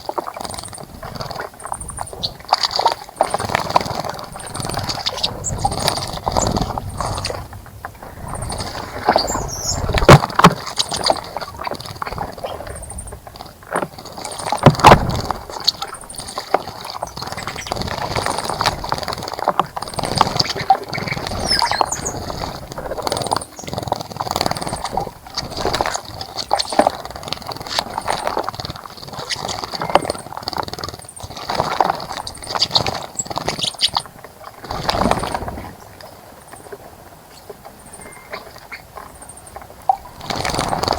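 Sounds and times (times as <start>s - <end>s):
birds chirping: 0.0s - 31.4s, 32.0s - 40.9s
birds splashing in water: 0.0s - 40.9s.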